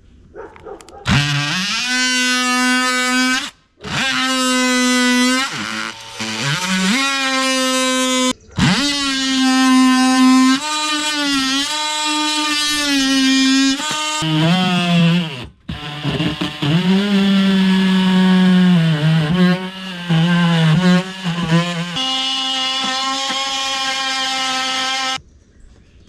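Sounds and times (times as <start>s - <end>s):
oscillating multi-tool cutting: 1.1s - 25.2s.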